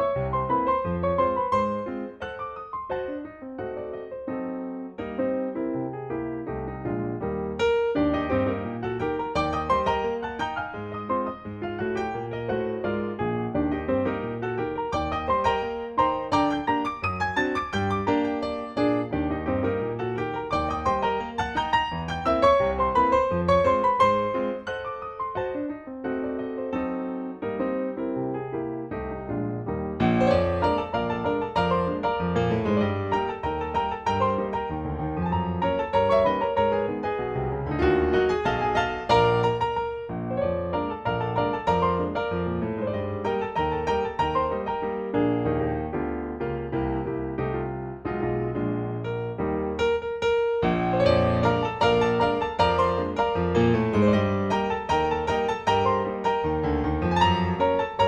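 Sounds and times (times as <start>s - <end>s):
gentle piano music: 0.0s - 58.0s.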